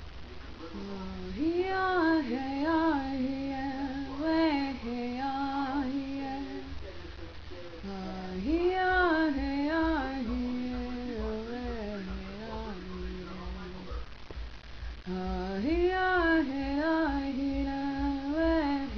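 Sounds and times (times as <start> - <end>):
low hum: 0.0 - 18.9
woman singing slow melody: 0.8 - 6.8, 7.8 - 13.9, 15.1 - 18.9.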